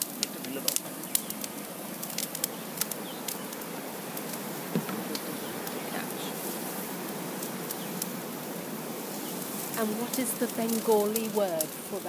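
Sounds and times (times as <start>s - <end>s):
sap boiling in a metal pan: 0.0s - 12.0s.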